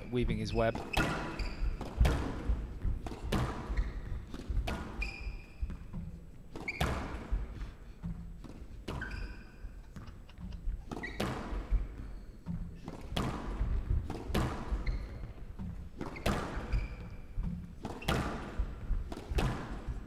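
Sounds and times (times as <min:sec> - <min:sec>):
court shoes squeaking: 0:00.0 - 0:20.0
squash ball knocking off walls: 0:00.8 - 0:09.2, 0:09.8 - 0:20.0.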